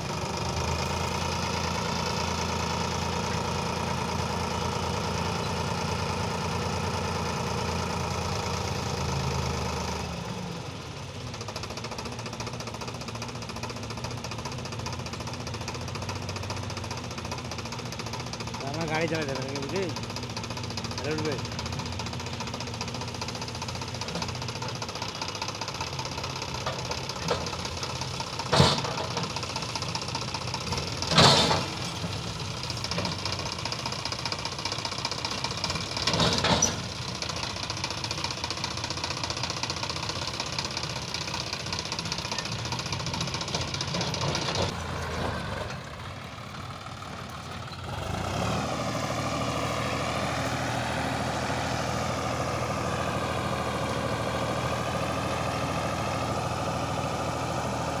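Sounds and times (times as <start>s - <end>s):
second tractor engine running: 0.0s - 58.0s
tractor diesel engine idling: 0.0s - 58.0s.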